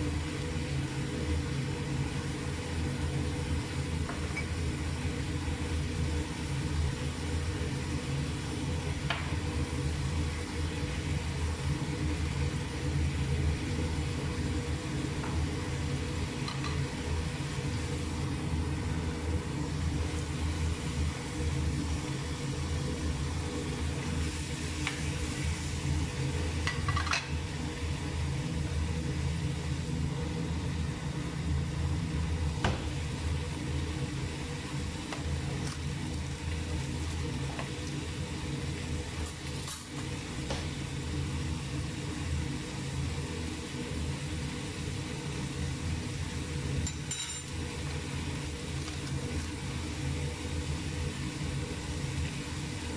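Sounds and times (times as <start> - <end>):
meat sizzling in a pot: 0.0 - 52.9
steady low hum: 0.0 - 52.9.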